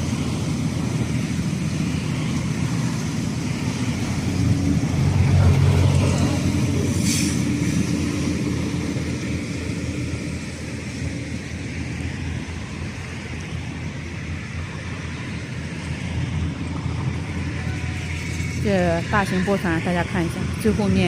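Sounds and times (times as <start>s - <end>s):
tug diesel engine drone: 0.0s - 21.0s.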